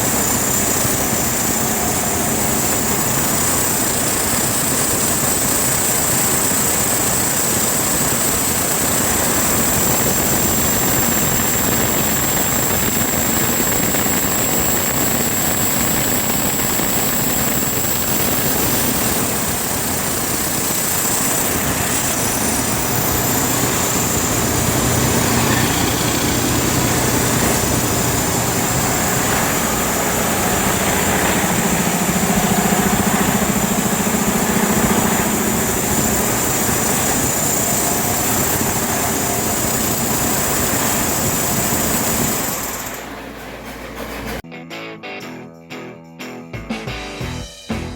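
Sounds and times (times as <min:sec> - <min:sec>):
high whine: 0:00.0 - 0:43.2
truck diesel engine running: 0:00.0 - 0:44.4.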